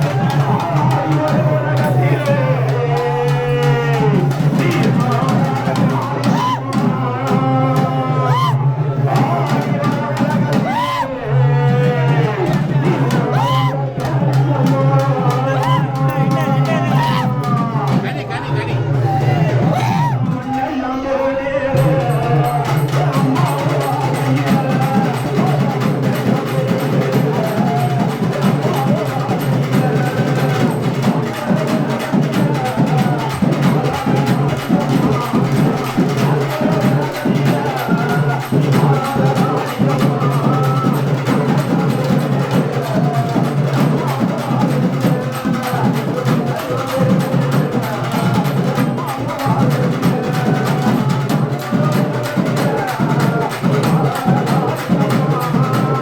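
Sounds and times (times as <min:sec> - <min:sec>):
fast dense drumming: 0:00.0 - 0:20.6, 0:21.7 - 0:56.0.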